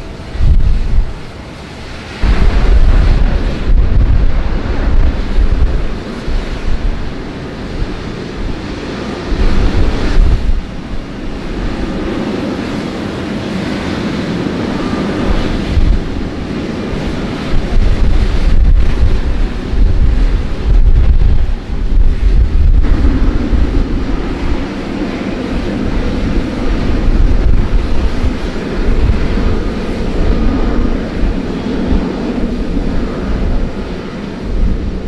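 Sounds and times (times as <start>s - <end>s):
steady rushing noise: 0.0s - 35.0s
wind buffeting the microphone: 0.0s - 35.0s.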